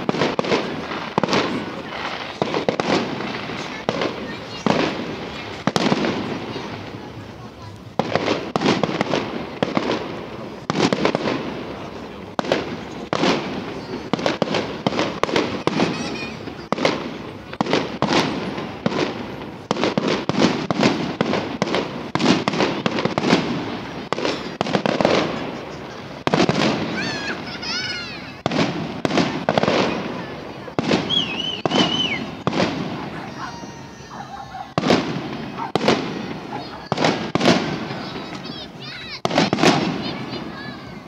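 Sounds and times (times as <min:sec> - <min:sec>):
firework shell bursts: 0:00.0 - 0:34.1
firework whistling: 0:00.0 - 0:41.0.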